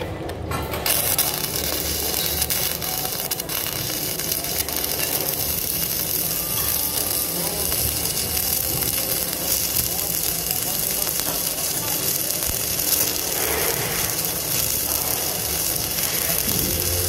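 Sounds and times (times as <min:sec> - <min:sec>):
welding arc crackling sizzle: 0:00.3 - 0:17.0.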